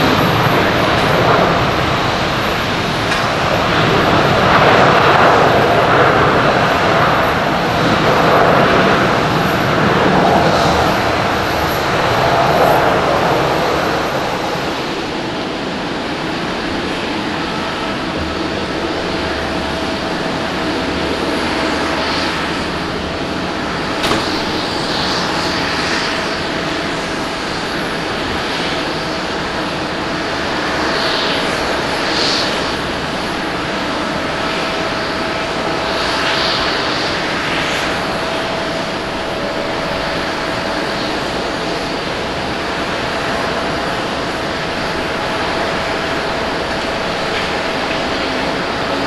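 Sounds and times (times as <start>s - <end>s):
faint jet whine: 0.0s - 49.0s
jet engines rushing: 0.0s - 49.0s.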